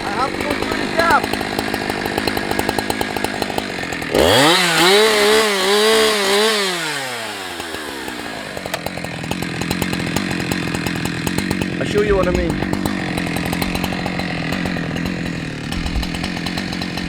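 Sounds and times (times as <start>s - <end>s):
chainsaw idling and revving: 0.0s - 17.0s.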